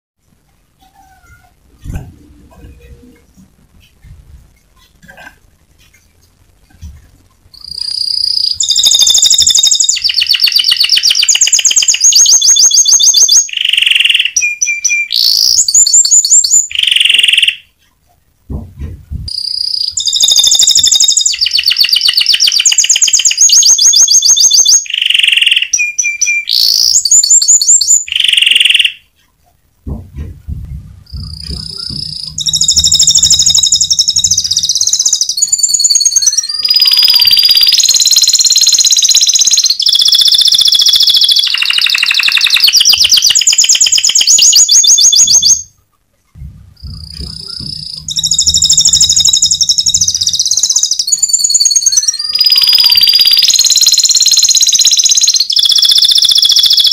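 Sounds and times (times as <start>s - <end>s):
canary singing trills: 0.7s - 18.0s, 18.9s - 29.3s, 30.2s - 45.8s, 46.4s - 56.9s.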